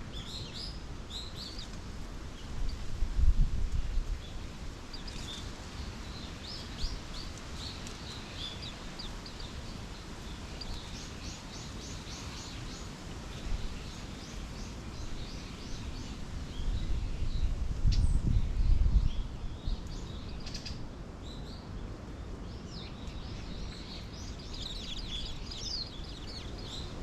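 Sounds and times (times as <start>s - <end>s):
songbirds chirping: 0.0s - 3.0s, 3.7s - 27.0s.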